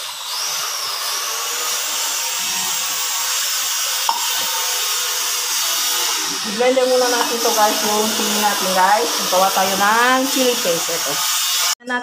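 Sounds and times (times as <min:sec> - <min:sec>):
blender motor whine: 0:00.0 - 0:11.8.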